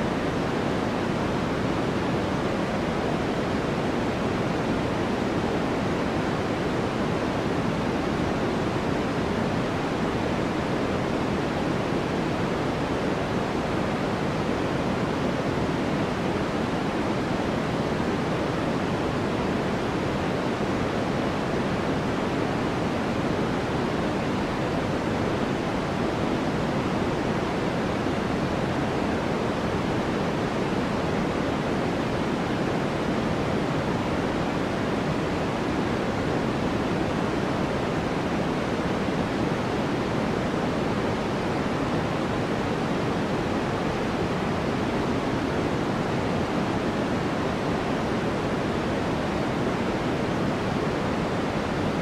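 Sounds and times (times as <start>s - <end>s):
deep white noise hiss: 0.0s - 52.0s.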